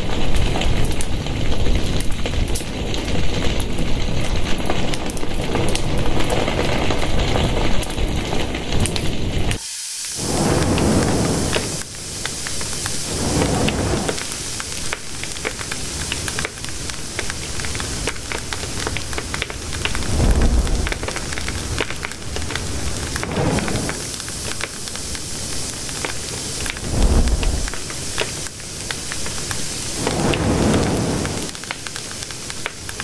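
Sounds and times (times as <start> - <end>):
fire crackling and hissing: 0.0 - 33.0
low rumbling flames: 0.0 - 33.0.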